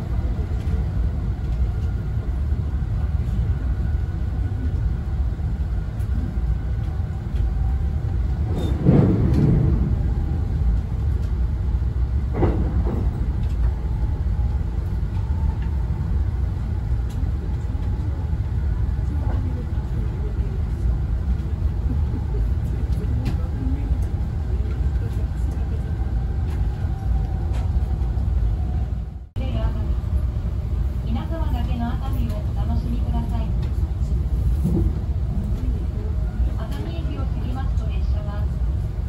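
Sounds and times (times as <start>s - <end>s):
train rumbling at speed: 0.0s - 39.0s.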